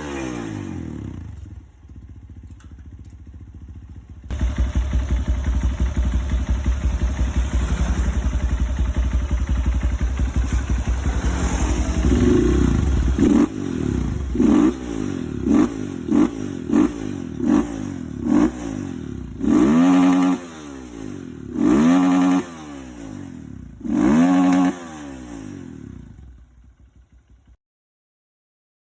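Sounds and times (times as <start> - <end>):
motorcycle engine idling and revving: 0.0 - 27.6.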